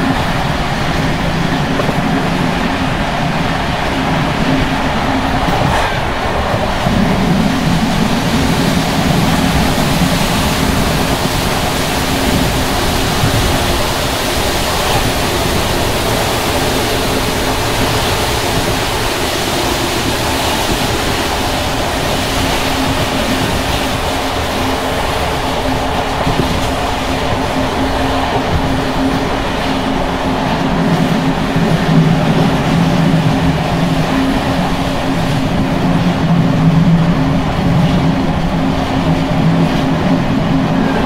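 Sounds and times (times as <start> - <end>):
train coach rumbling and rattling: 0.0 - 41.0
wind rushing through window: 0.0 - 41.0.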